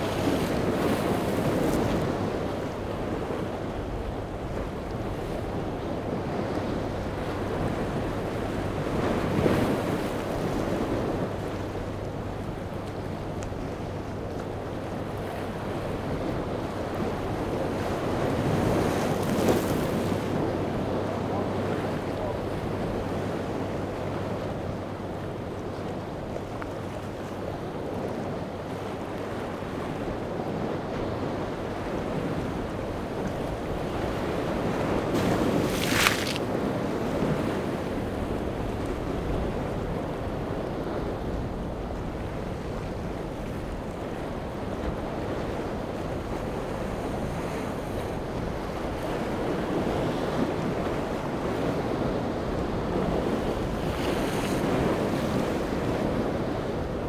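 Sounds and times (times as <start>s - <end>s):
waves breaking against rocks: 0.0s - 57.0s
wind buffeting microphone: 0.0s - 57.0s.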